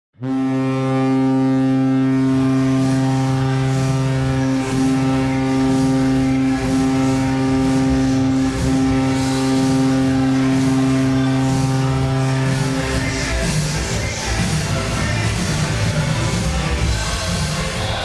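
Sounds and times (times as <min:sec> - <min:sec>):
hockey goal horn: 0:00.2 - 0:18.0.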